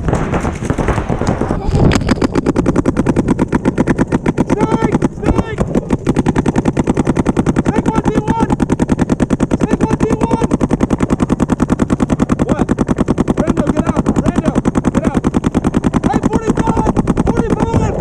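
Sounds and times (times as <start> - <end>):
paintball markers firing rapidly: 0.0 - 18.0.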